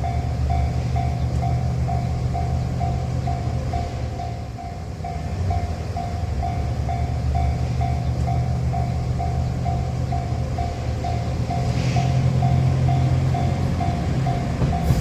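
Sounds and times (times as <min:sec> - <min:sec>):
diesel railcar engine rumble: 0:00.0 - 0:15.0.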